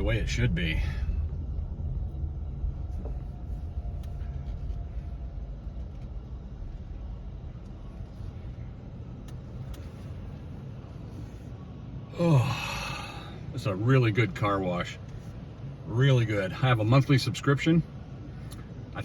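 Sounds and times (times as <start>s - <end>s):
low rumble of car: 0.0s - 19.0s.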